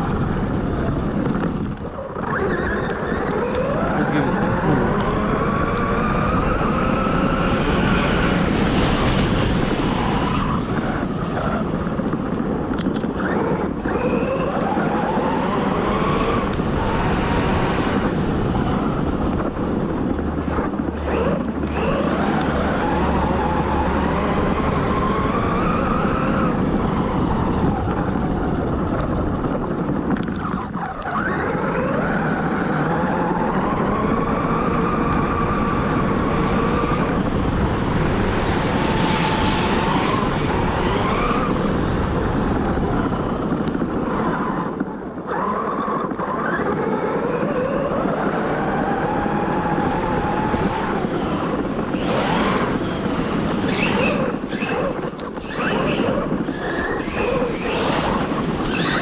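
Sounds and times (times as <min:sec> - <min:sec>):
electric motor whining: 0:00.0 - 0:59.0
steady rushing noise: 0:00.0 - 0:59.0.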